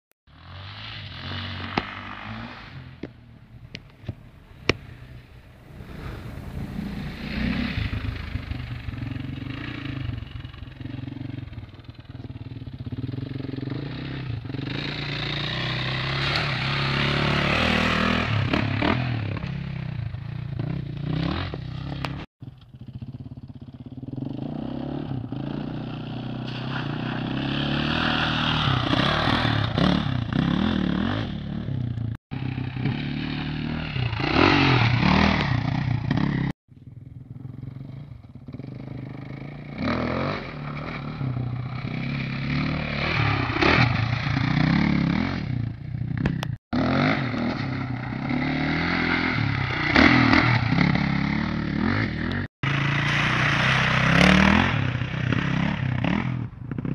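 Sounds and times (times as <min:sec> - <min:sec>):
dirt bike engine revving: 0:05.5 - 0:22.3, 0:23.9 - 0:36.6, 0:37.3 - 0:56.9.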